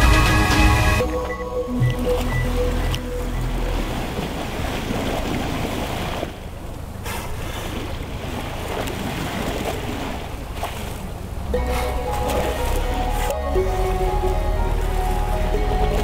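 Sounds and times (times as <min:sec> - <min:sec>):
water washing around boat: 0:01.0 - 0:16.0.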